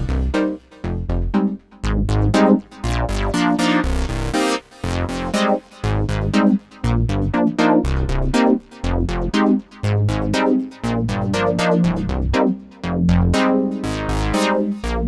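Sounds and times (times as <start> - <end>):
synthesizer bass line: 0.0 - 15.0.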